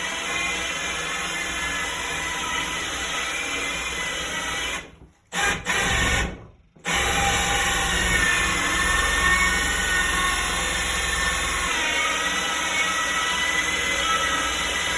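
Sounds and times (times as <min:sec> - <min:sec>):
power drill cutting into wood: 0:00.0 - 0:14.9.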